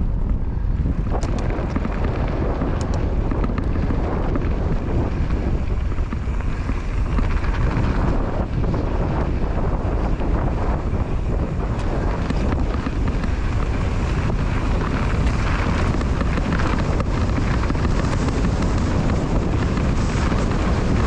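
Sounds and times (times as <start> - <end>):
tyres rumbling on dirt trail: 0.0 - 21.0
wind buffeting microphone: 0.0 - 21.0.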